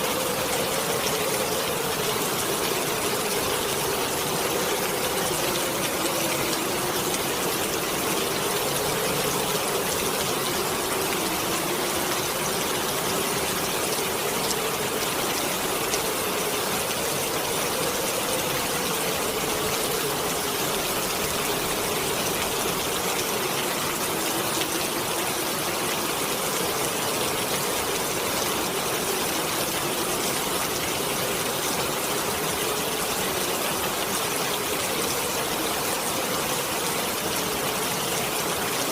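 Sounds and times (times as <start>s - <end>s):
heavy rain: 0.0s - 38.9s
howling wind: 0.0s - 38.9s.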